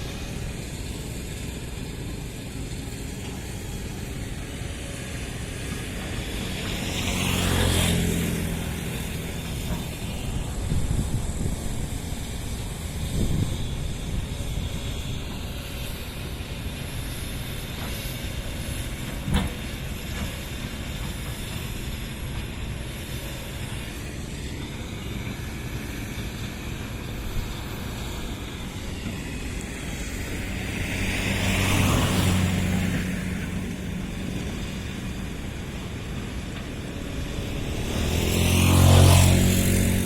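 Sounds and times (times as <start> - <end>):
diesel engine running: 0.0 - 40.0
louder engine sound: 0.0 - 40.0.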